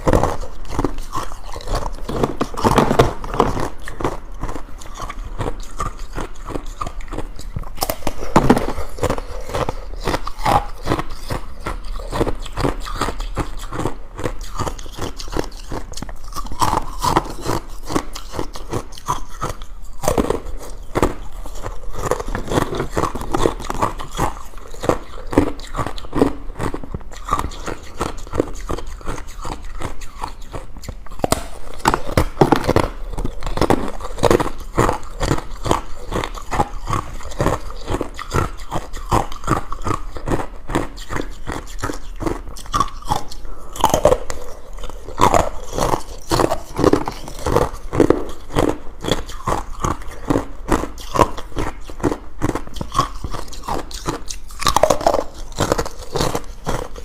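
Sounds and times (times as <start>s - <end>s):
person crunching ice: 0.0s - 57.0s.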